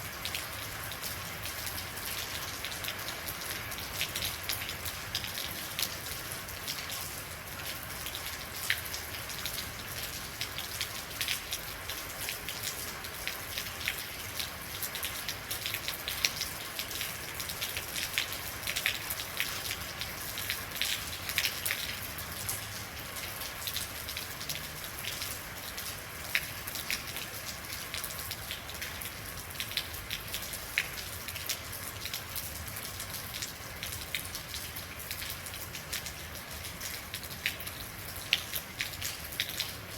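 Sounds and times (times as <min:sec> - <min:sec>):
raindrops ticking on a hard surface: 0:00.0 - 0:39.9.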